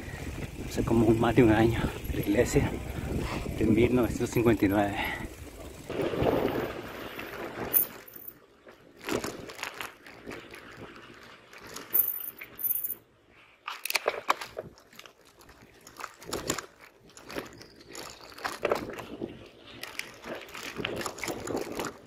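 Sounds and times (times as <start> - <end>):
bike rattling over bumps: 0.0 - 12.9, 13.9 - 22.0.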